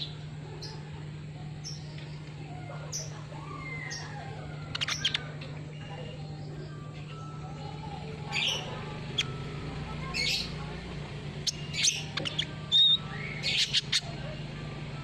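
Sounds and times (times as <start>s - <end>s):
sunbird chirps and squeaky calls: 0.0s - 6.6s, 7.7s - 14.7s.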